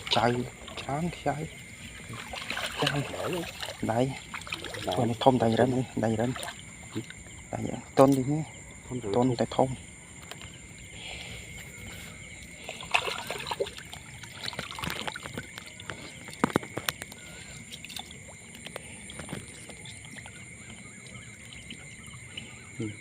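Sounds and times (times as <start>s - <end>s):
high drone of insects: 0.0s - 23.0s
water sloshing and splashing: 0.0s - 23.0s.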